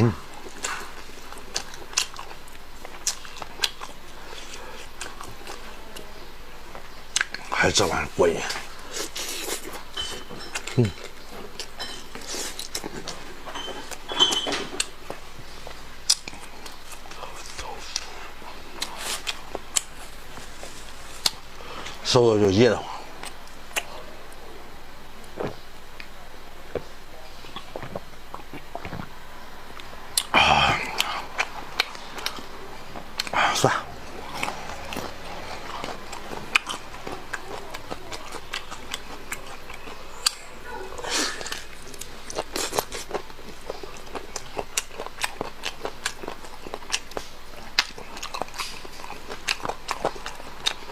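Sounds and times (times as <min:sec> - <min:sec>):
person chewing with wet smacks: 0:00.0 - 0:22.2, 0:23.0 - 0:24.4, 0:25.2 - 0:50.9.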